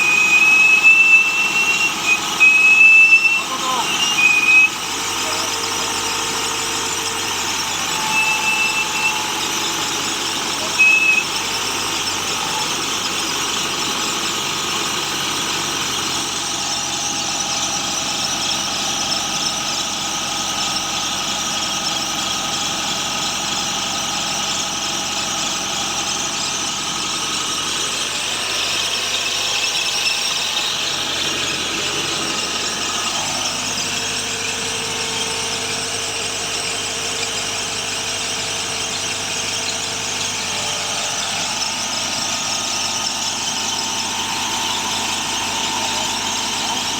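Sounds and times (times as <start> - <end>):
drilling rig engine: 0.0 - 46.9
high-pitched squealing whine: 0.0 - 46.9.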